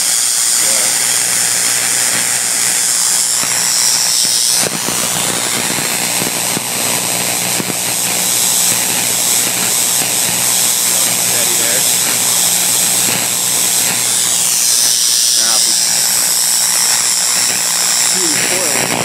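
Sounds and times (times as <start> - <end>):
corona discharge hiss: 0.0 - 19.0
sharp electric cracks: 0.0 - 19.0.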